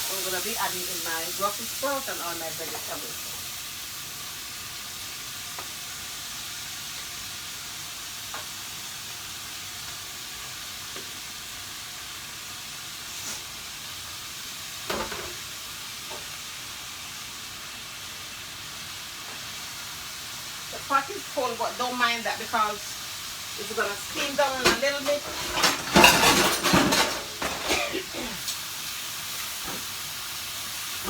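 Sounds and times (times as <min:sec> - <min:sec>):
sauce sizzling in a pot: 0:00.0 - 0:31.0.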